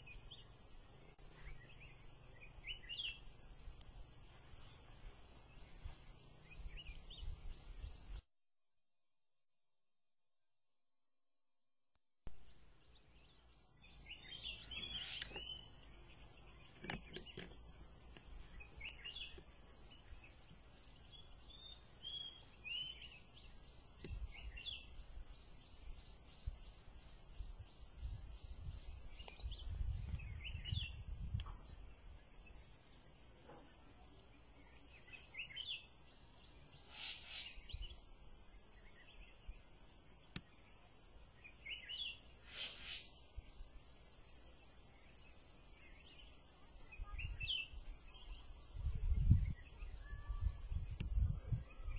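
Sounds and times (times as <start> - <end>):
insect chirping calls: 0.0 - 8.2, 12.3 - 51.9
insects droning: 0.0 - 8.2, 12.3 - 51.9.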